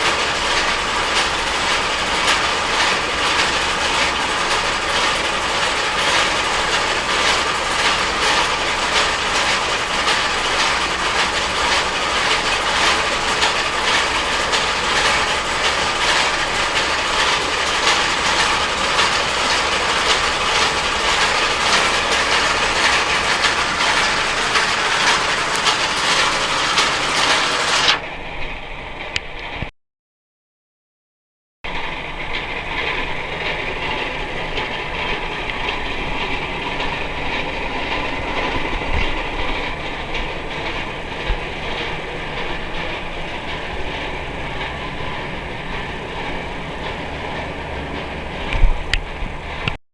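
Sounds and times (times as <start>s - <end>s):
rotary drum clattering: 0.0s - 28.1s, 31.7s - 49.8s.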